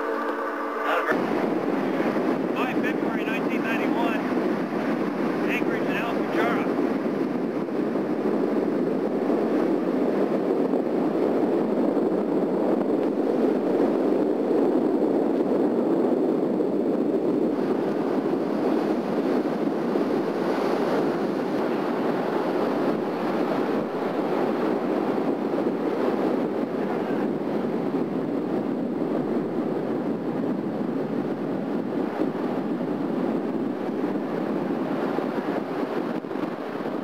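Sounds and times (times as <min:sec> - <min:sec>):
wind rushing on microphone: 0:00.0 - 0:37.0.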